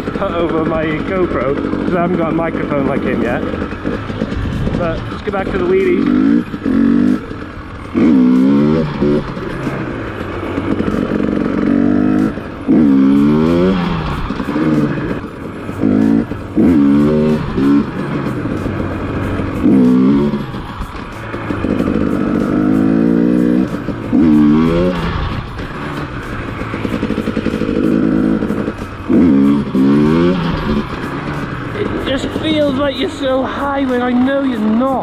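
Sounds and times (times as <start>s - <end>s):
two-stroke dirt bike revving: 0.0s - 35.0s.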